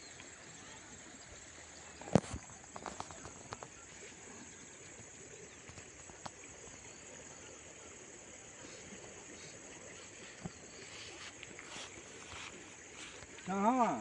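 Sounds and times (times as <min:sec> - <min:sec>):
faint high-pitched hiss: 0:00.0 - 0:14.0.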